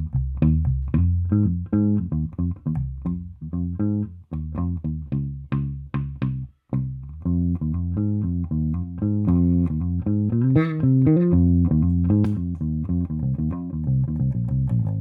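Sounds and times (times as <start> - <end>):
bass guitar plucked notes: 0.0 - 15.0.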